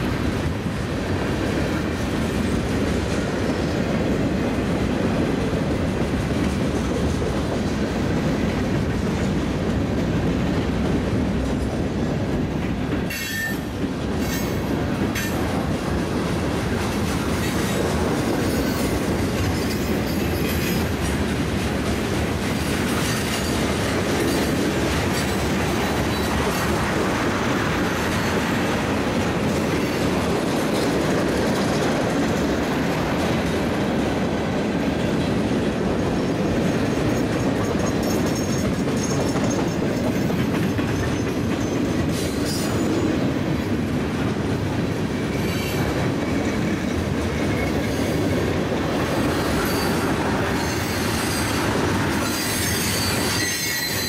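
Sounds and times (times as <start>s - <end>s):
freight train wheels on rail: 0.0s - 54.0s.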